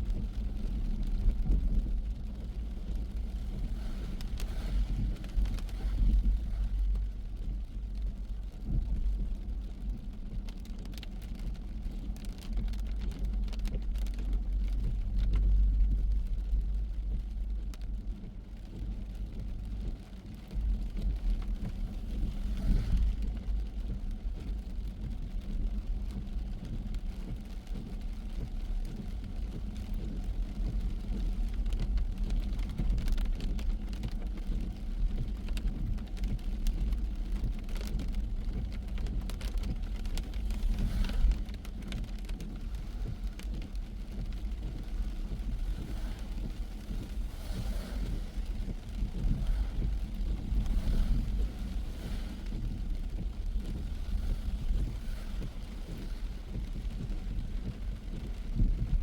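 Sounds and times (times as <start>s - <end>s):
car road and engine rumble: 0.0s - 59.0s
raindrops tapping: 0.1s - 59.0s.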